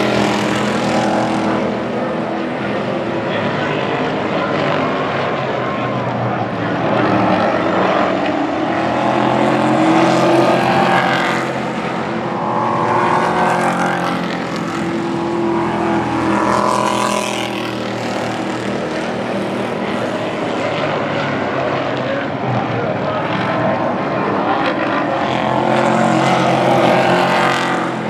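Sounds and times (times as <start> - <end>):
race truck engines passing: 0.0 - 28.0.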